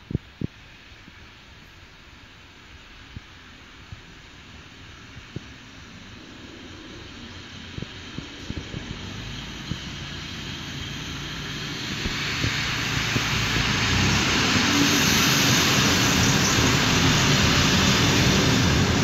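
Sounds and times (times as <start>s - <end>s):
diesel railcar engine: 0.0s - 19.0s
train wheels on rails: 0.0s - 19.0s.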